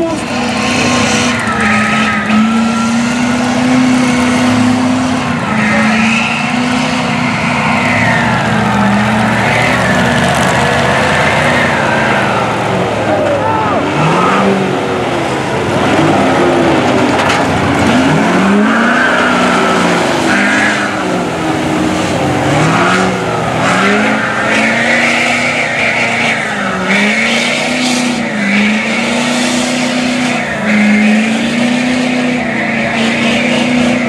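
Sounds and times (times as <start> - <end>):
tires churning through mud: 0.0 - 34.0
truck engine revving: 0.0 - 34.0.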